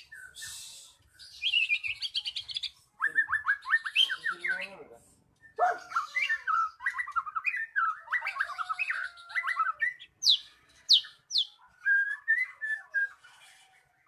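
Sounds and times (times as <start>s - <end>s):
bird singing chattering whistles: 0.1s - 4.8s, 5.4s - 13.2s.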